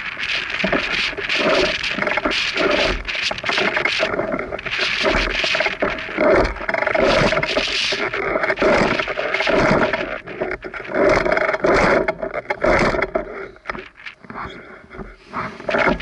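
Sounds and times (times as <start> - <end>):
heavy rhythmic breathing: 0.2 - 16.0.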